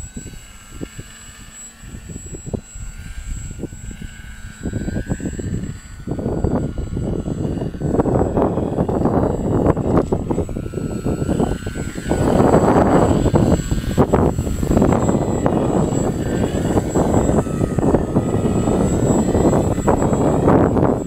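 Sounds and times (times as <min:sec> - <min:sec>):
gusty wind buffeting microphone: 0:00.0 - 0:21.0
model airplane propeller whine: 0:00.0 - 0:21.0.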